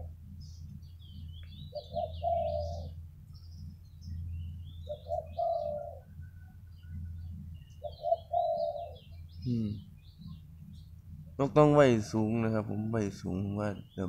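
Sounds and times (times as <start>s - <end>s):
dove cooing: 0.0s - 14.0s
small birds chirping: 0.0s - 14.0s.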